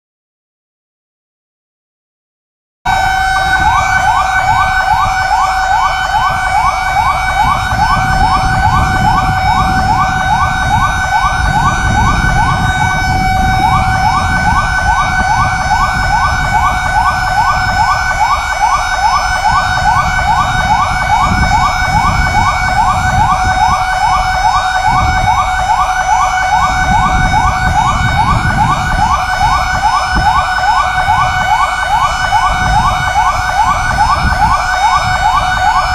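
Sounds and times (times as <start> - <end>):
low rumbling noise: 2.9 - 35.9
siren yelping: 2.9 - 35.9.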